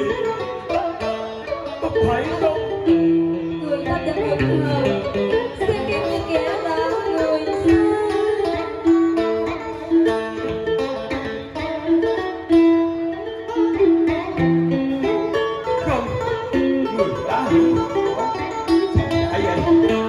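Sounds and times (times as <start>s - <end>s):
plucked string melody: 0.0s - 20.0s.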